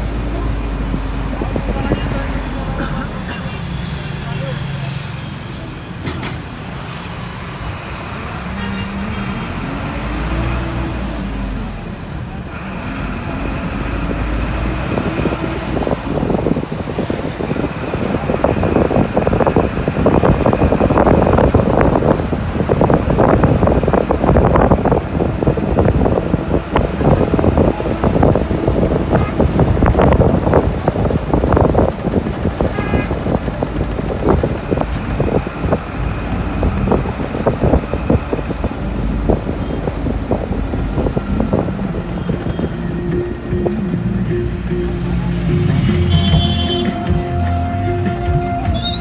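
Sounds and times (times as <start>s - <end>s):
vehicle engine and road noise: 0.0s - 49.0s.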